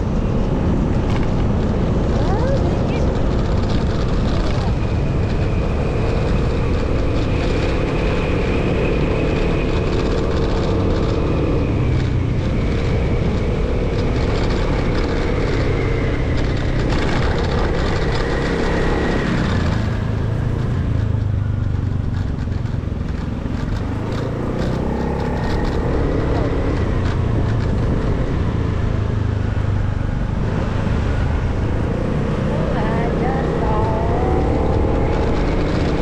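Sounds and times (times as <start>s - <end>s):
motorcycle engine whine: 0.0s - 36.0s.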